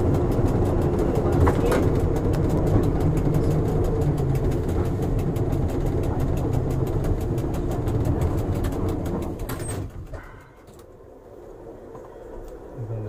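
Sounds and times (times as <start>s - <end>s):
fast even clicking: 0.0s - 10.8s
motor and gearing hum: 0.0s - 13.0s.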